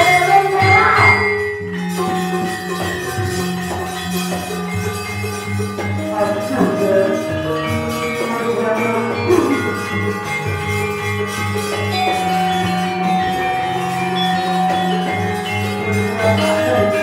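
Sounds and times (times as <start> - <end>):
ringing metallophone notes: 0.0 - 17.0.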